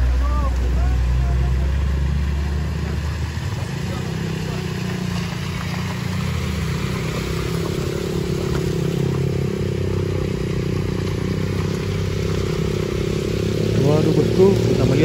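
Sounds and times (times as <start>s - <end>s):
car engine climbing: 0.0s - 15.0s
motorcycles: 0.0s - 15.0s.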